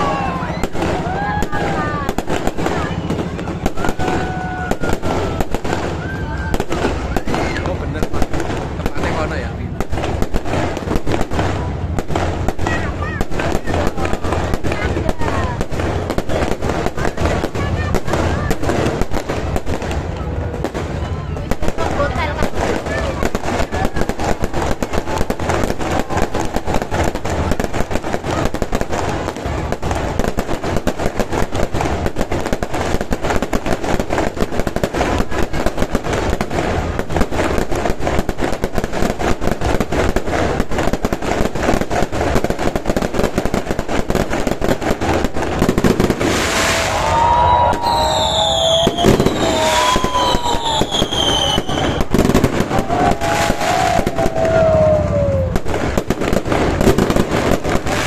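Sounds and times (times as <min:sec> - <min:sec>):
fireworks crackling bangs: 0:00.0 - 0:58.0
whistling fireworks: 0:00.0 - 0:58.0.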